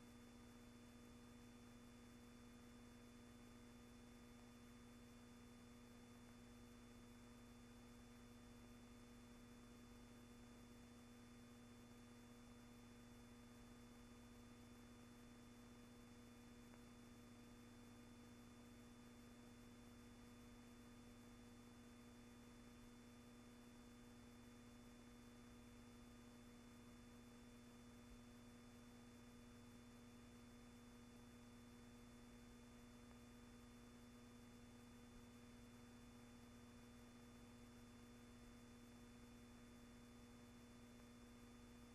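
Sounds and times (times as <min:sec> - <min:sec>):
faint steady hum and hiss: 0:00.0 - 0:41.9.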